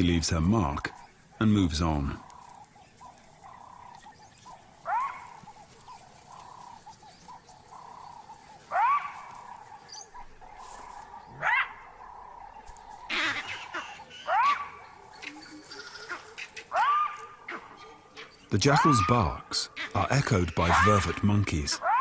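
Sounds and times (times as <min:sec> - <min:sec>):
jackal barking: 0:00.0 - 0:22.0.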